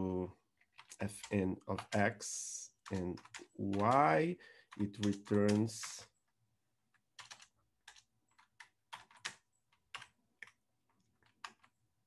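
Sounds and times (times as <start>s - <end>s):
faint keyboard keystrokes: 0.6s - 2.2s, 2.8s - 11.9s.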